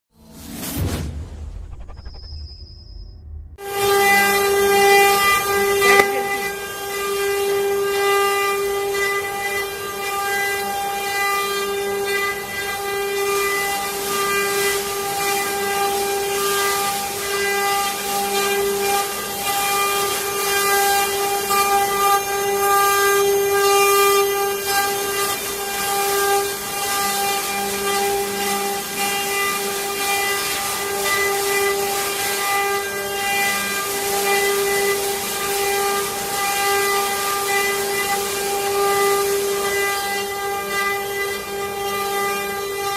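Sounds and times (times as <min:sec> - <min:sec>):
wood cutting hiss: 0:03.6 - 0:11.2, 0:12.3 - 0:42.9
router spindle whine: 0:03.6 - 0:42.9.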